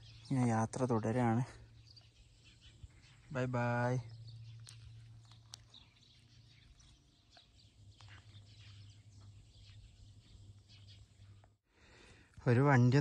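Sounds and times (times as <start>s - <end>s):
low steady hum: 0.0s - 12.3s.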